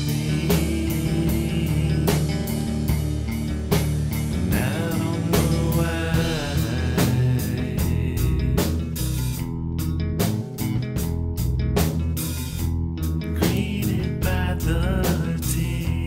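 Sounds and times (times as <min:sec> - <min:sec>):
bending lead guitar line: 0:00.0 - 0:16.0
rock song: 0:00.0 - 0:16.0.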